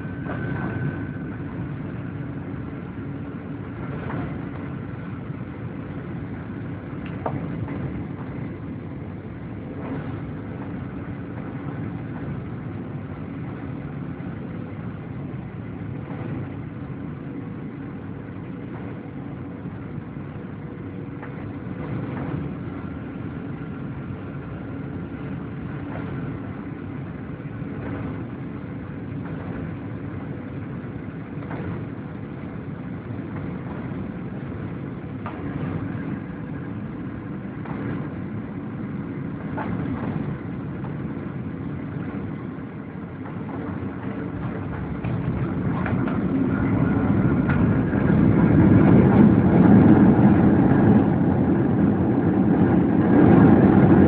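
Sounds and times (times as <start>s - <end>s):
airplane cabin airflow and engines: 0.0s - 54.0s
faint steady hum: 0.0s - 54.0s.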